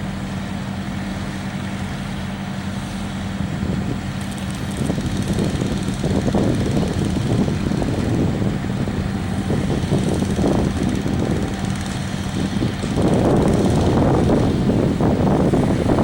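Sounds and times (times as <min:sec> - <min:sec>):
heavy engine rumbling: 0:00.0 - 0:16.0.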